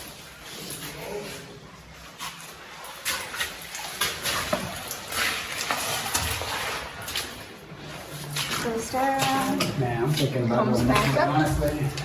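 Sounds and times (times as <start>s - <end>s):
stream water splashing: 0.0s - 12.0s.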